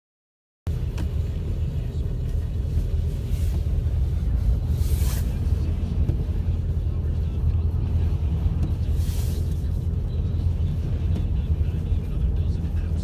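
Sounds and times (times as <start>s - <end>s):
car engine and tyres rumbling: 0.7s - 13.0s.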